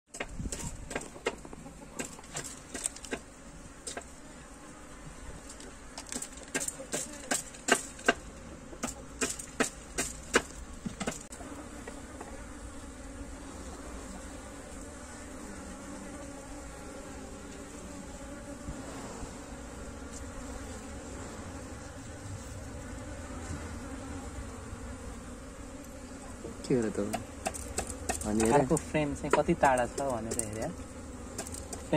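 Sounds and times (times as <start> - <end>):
honey bees humming: 0.1 - 31.9.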